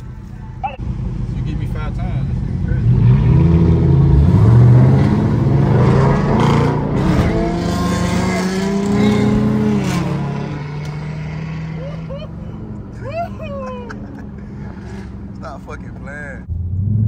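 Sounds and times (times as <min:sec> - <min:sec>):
car engine revving: 0:00.8 - 0:17.0.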